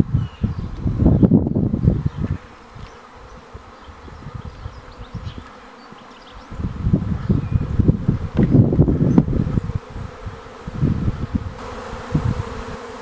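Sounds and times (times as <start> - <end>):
wind buffeting microphone: 0.0 - 5.5, 6.3 - 13.0
bees buzzing: 0.0 - 13.0.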